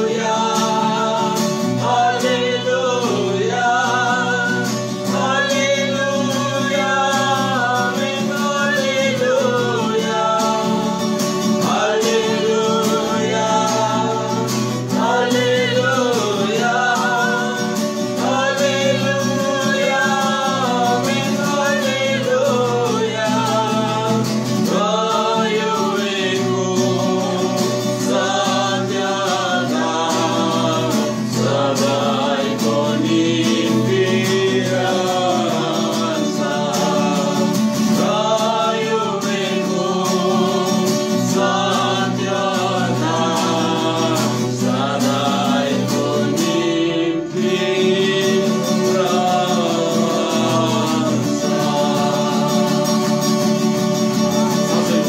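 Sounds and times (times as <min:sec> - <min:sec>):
man and woman singing: 0:00.0 - 0:55.0
strummed acoustic guitar: 0:00.0 - 0:55.0.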